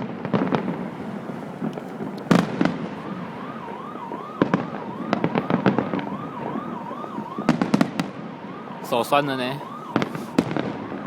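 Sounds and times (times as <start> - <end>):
emergency siren wailing: 0.0 - 11.0
fireworks banging: 0.0 - 11.0.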